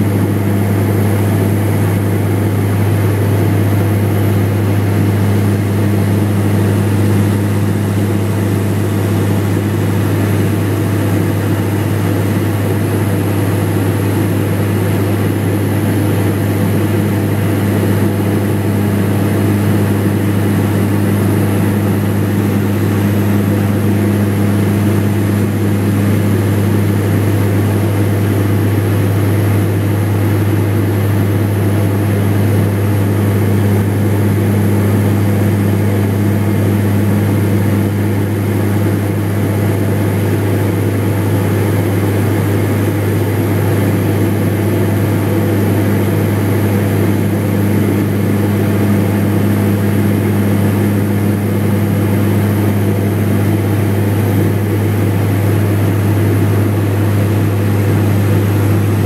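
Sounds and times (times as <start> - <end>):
aircraft engines droning: 0.0 - 59.0.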